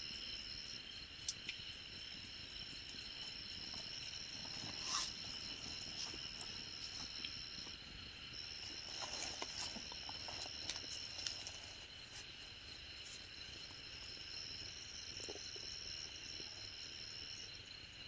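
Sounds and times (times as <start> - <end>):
insects trilling: 0.0 - 18.0
faint clicks and rustles: 1.2 - 16.5.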